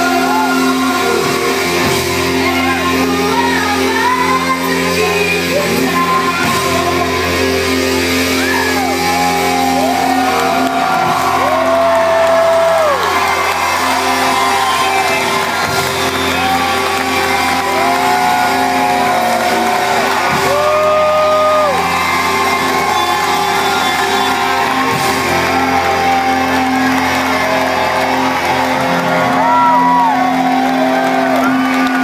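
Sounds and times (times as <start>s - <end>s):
crowd shouting and whooping: 0.0s - 32.0s
live rock band playing: 0.0s - 32.0s.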